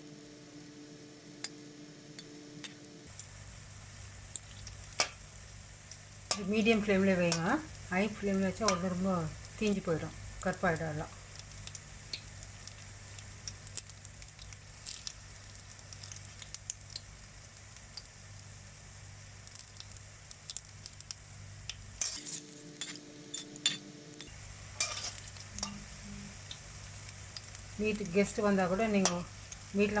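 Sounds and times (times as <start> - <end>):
deep-frying sizzle and crackles: 0.0 - 30.0.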